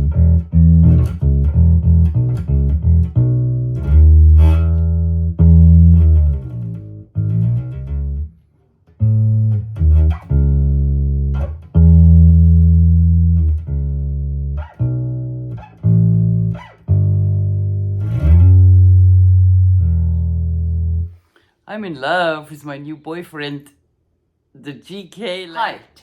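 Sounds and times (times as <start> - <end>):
electric bass guitar notes: 0.0 - 21.2.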